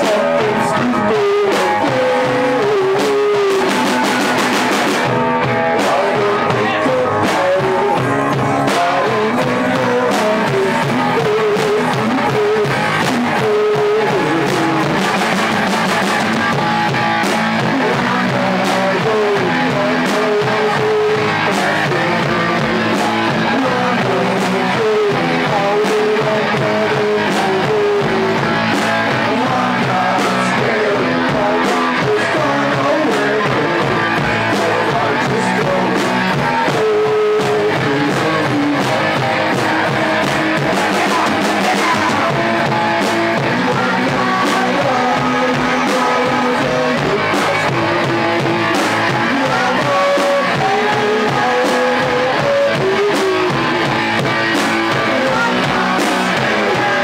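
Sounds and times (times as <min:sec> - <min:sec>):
live punk rock band: 0:00.0 - 0:57.0
person singing: 0:00.0 - 0:57.0.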